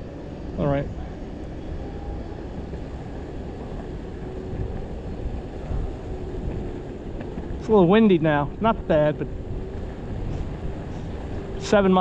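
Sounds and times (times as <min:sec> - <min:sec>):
electric skateboard rolling: 0:00.0 - 0:12.0
wind buffeting microphone: 0:00.0 - 0:12.0.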